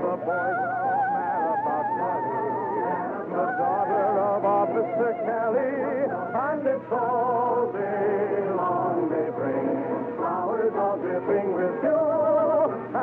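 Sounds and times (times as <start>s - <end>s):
orchestral music on old radio: 0.0s - 13.0s.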